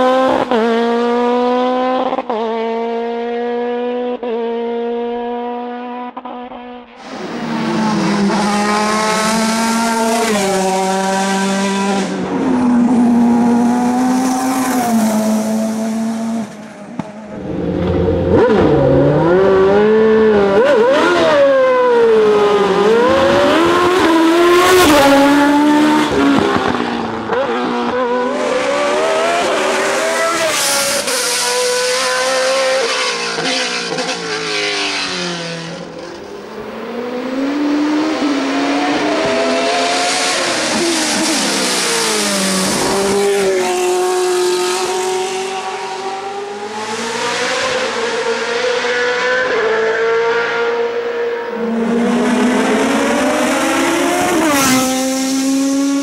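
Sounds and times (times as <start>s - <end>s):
race car engines revving past: 0.0s - 56.0s.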